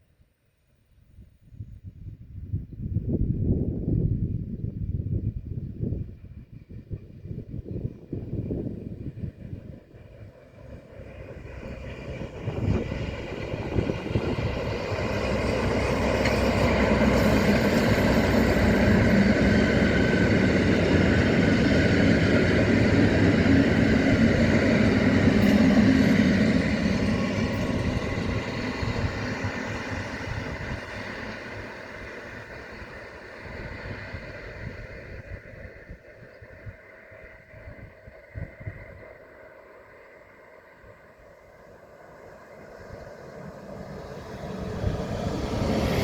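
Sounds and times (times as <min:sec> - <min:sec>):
train passing by: 0:03.0 - 0:46.0.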